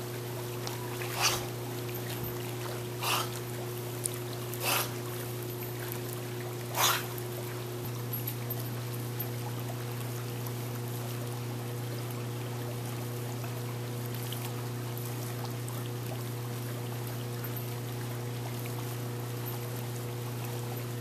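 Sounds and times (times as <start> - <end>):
pool filter pump humming: 0.0 - 21.0
water sloshing from dog swimming: 0.0 - 21.0.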